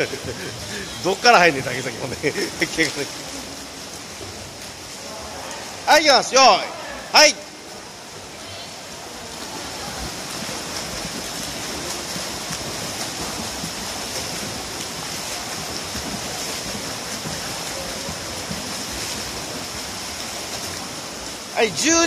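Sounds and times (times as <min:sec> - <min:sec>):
swimmer splashing water: 0:00.0 - 0:22.0.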